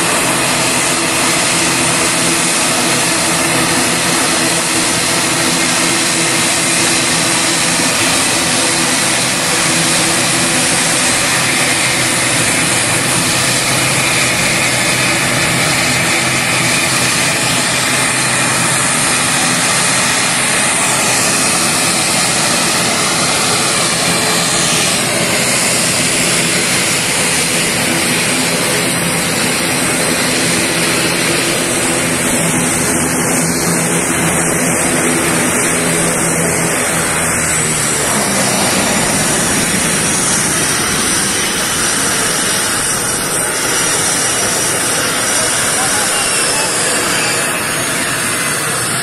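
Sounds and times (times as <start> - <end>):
low engine drone: 0.0 - 49.0
turboprop engines whining: 0.0 - 49.0.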